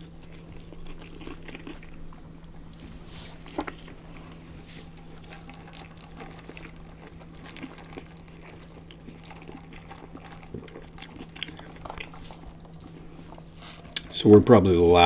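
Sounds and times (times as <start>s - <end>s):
chewing and wet mouth sounds: 0.0s - 15.0s
steady low hum: 0.0s - 15.0s.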